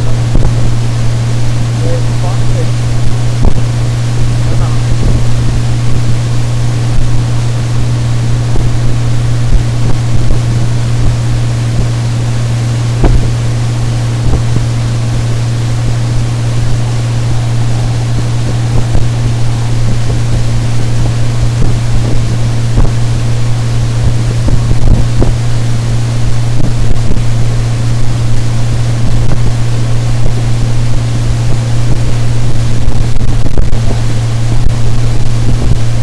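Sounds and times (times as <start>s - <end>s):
hull thumping on waves: 0.0s - 36.0s
outboard motor running: 0.0s - 36.0s
wind rush on microphone: 0.0s - 36.0s.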